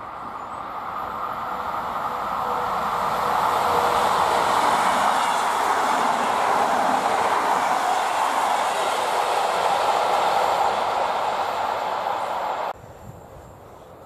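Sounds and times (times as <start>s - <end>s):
train wheels on rails: 0.0s - 12.8s.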